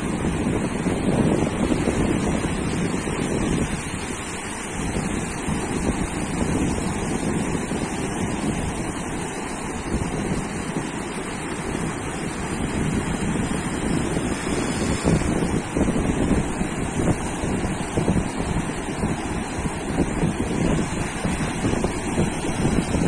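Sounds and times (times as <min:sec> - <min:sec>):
surf washing onto a beach: 0:00.0 - 0:23.0
wind buffeting the microphone: 0:00.0 - 0:23.0.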